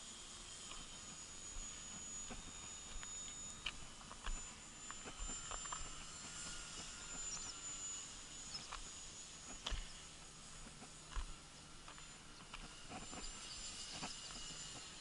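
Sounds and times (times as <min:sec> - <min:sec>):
rc plane motor whine: 0:00.0 - 0:15.0.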